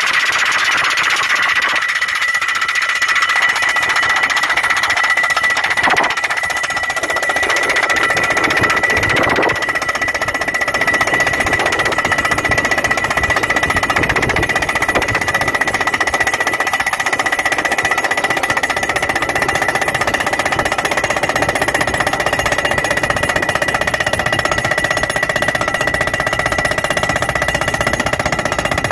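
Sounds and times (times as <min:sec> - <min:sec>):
hydraulic hammer pounding steel post: 0:00.0 - 0:28.9
steady high tone: 0:00.0 - 0:28.9.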